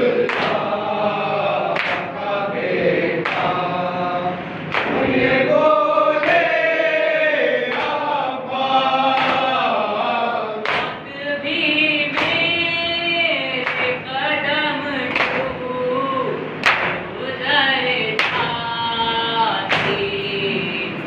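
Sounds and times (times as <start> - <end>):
voices chanting a lament: 0.0 - 21.0.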